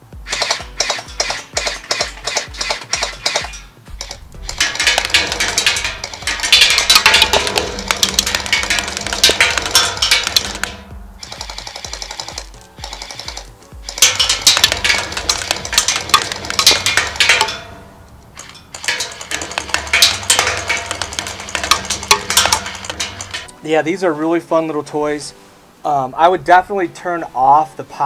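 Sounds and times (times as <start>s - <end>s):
background music with drum beat: 0.0s - 23.9s.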